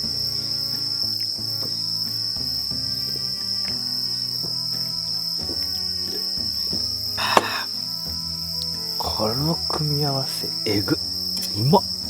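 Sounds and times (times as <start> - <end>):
background music: 0.0 - 12.0
crickets trilling: 0.0 - 12.0.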